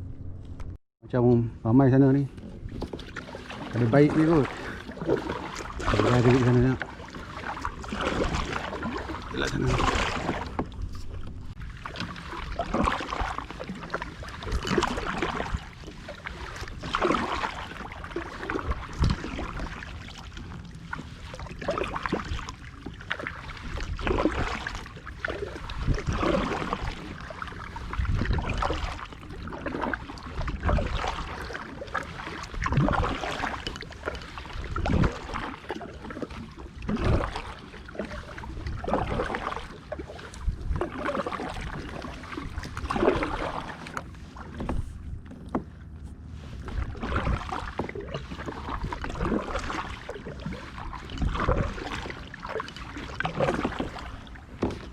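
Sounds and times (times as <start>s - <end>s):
paddle strokes splashing water: 2.3s - 54.9s
water washing: 2.5s - 45.7s, 46.4s - 54.9s.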